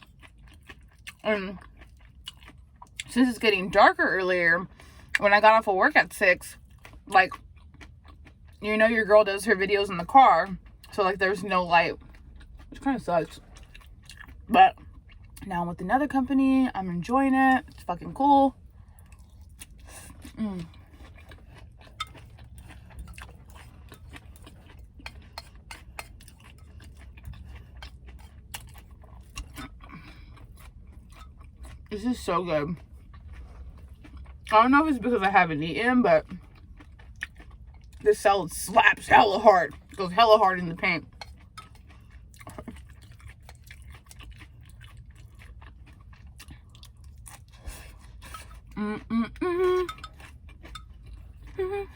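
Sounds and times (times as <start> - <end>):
close-up chewing crunches: 0.0 - 51.9.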